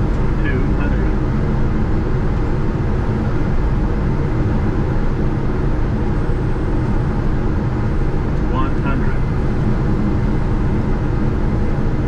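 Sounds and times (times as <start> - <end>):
cockpit airflow and engine rush: 0.0 - 12.0.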